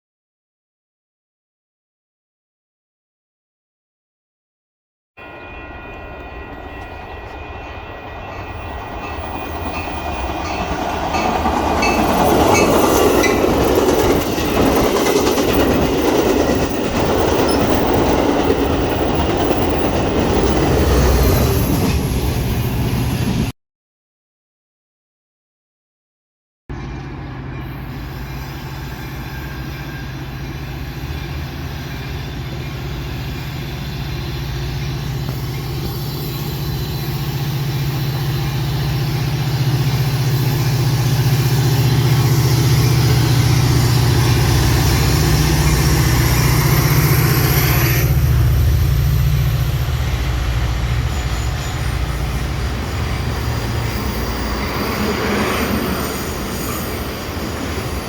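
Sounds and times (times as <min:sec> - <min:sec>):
train rail noise: 0:05.2 - 0:23.5, 0:26.7 - 0:58.0.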